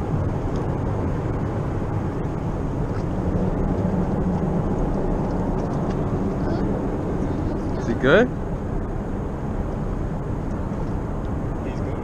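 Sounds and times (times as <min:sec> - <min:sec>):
distant traffic rumble: 0:00.0 - 0:12.0
low hum: 0:00.0 - 0:12.0.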